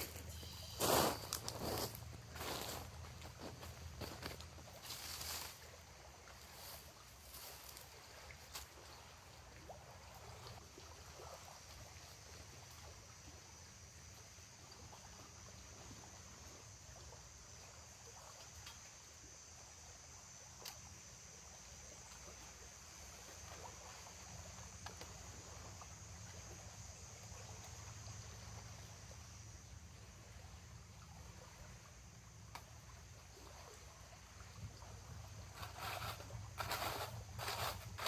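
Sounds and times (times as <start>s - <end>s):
steady high hiss: 0.0s - 8.9s, 11.7s - 38.0s.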